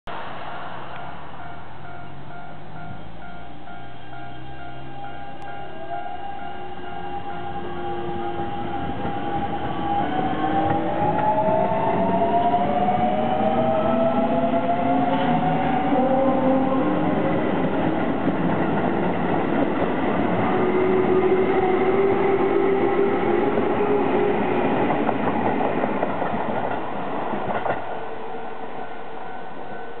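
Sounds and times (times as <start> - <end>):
wheels rumbling on rail: 0.1 - 30.0.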